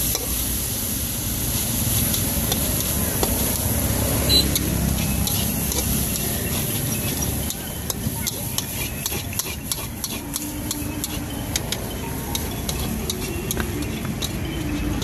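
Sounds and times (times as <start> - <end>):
light sizzle: 0.0 - 15.0
metal ladle scraping wok: 1.5 - 15.0.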